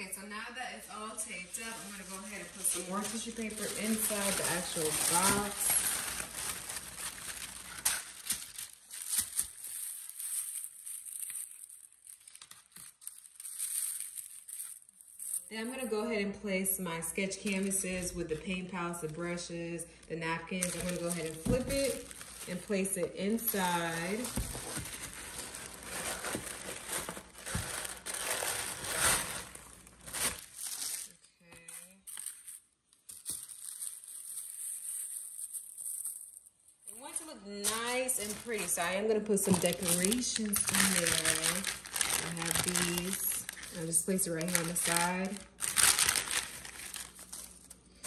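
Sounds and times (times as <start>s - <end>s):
tissue paper rustling and crinkling: 0.9s - 15.5s, 20.2s - 31.2s, 31.8s - 48.0s.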